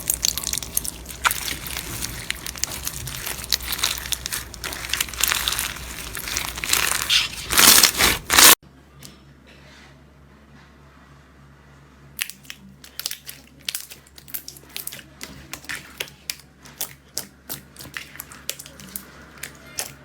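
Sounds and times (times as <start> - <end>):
slime crackling and popping: 0.0 - 8.6, 12.2 - 20.0.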